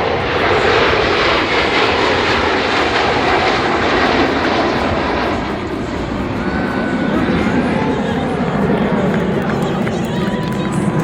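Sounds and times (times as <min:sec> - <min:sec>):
jet planes flying past: 0:00.0 - 0:11.0.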